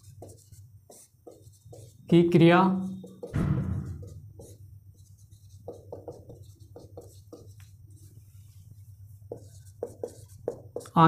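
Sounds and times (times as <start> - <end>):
marker pen on whiteboard: 0.0 - 11.0.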